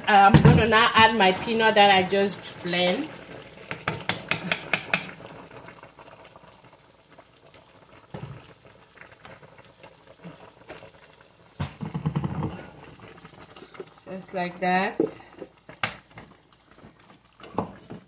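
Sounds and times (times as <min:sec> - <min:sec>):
pot simmering: 0:00.0 - 0:18.0.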